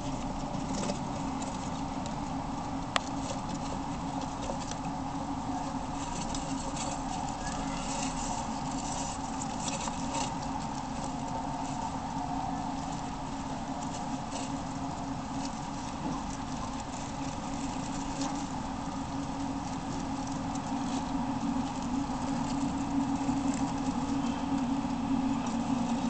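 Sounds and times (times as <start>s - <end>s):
hamsters rustling in bedding: 0.0s - 26.0s
steady low hum: 0.0s - 26.0s.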